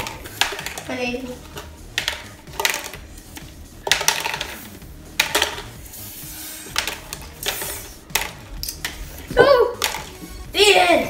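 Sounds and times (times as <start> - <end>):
hard candies clicking: 0.0 - 5.8, 6.7 - 10.4.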